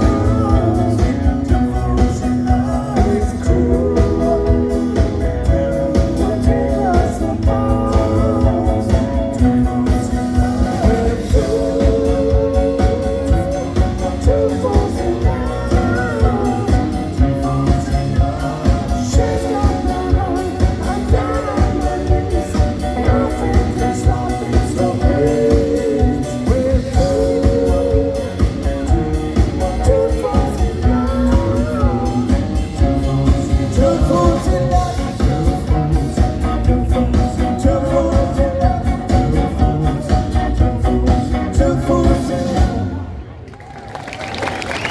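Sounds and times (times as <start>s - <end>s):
steady drum beat: 0.0s - 42.8s
lead singer singing: 0.0s - 43.4s
rock band playing: 0.0s - 43.4s
guitar: 0.0s - 43.6s.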